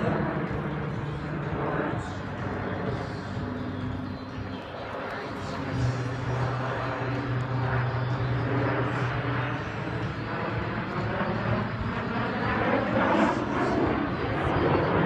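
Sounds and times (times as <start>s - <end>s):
jet engines passing overhead: 0.0s - 15.0s.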